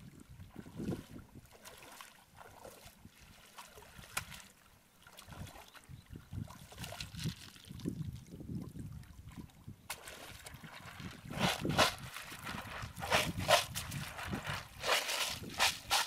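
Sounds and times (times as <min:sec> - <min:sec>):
person wading through water: 0:00.0 - 0:16.0.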